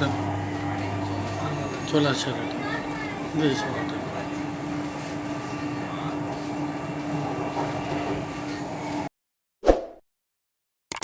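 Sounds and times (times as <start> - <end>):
metro train running with hum: 0.0 - 9.1.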